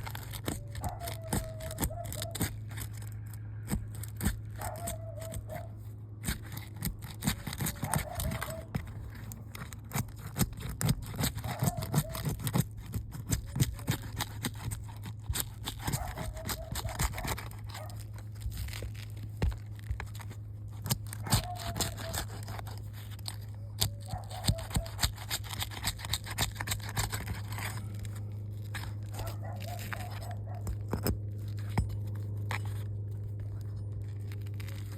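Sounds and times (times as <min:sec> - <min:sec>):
shingles scraping and tearing: 0:00.0 - 0:34.9
steady low hum: 0:00.0 - 0:34.9.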